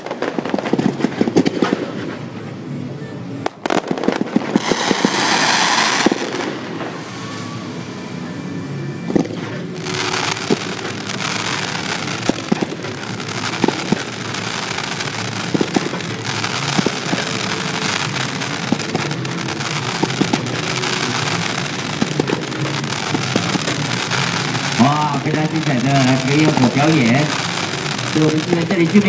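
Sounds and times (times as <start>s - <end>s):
fireworks popping and banging: 0.0s - 2.6s, 3.4s - 7.5s, 9.1s - 29.0s
fireworks hissing and crackling: 0.0s - 29.0s.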